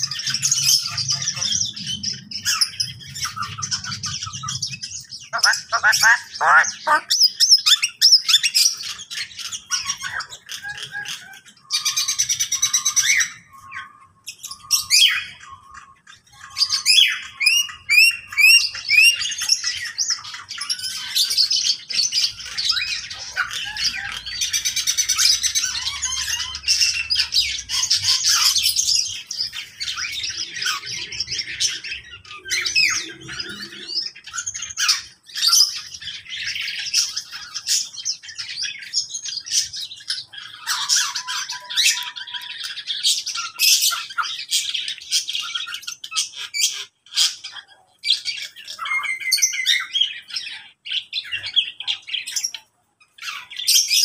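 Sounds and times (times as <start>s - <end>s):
parrots squawking: 0.0s - 54.0s
songbirds chirping: 0.0s - 54.0s.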